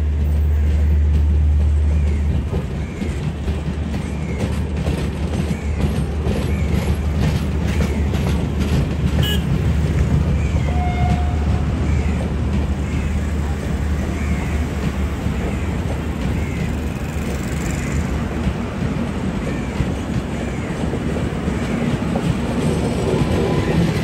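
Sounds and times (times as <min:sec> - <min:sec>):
train coaches rumbling past: 0:00.0 - 0:24.0
wheels clicking over rail joints: 0:00.0 - 0:24.0.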